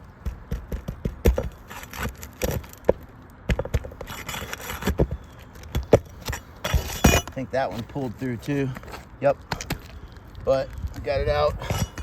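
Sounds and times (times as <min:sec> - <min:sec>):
pry bar scraping under roof shingles: 0:00.0 - 0:12.0.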